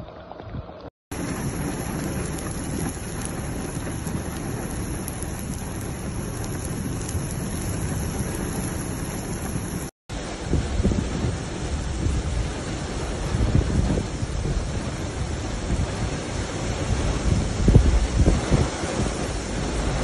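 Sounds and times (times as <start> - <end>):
heavy rain on wet ground: 1.1 - 20.0.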